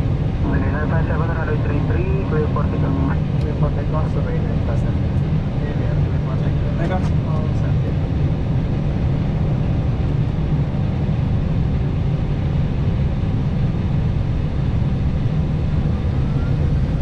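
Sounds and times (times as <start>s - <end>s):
jet engines rumbling in cockpit: 0.0s - 17.0s.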